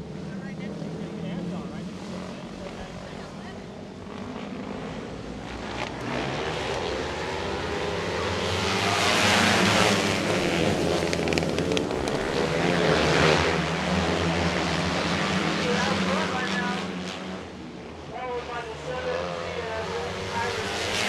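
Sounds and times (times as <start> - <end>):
go-kart engines accelerating: 0.0 - 21.0.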